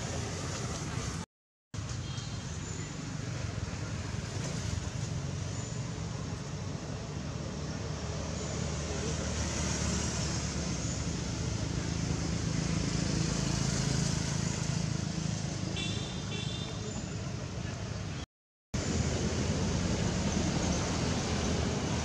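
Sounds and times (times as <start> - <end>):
road traffic engine noise: 0.0 - 1.2, 1.8 - 22.0.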